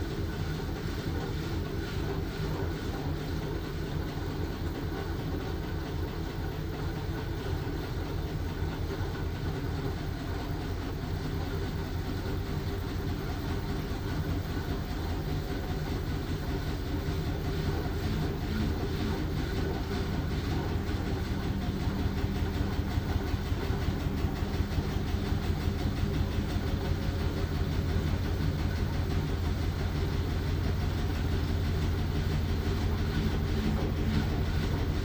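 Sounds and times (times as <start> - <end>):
washing machine rumbling: 0.0 - 35.0.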